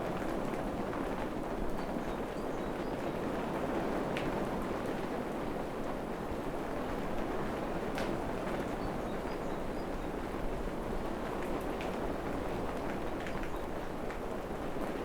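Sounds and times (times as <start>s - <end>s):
steady rain in forest: 0.0s - 15.0s.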